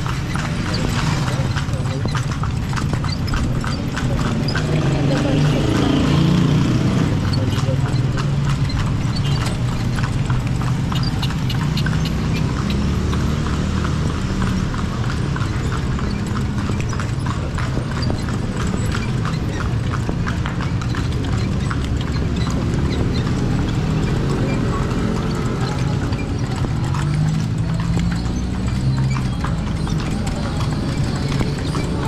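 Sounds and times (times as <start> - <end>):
horse hooves clip-clopping: 0.0 - 32.0.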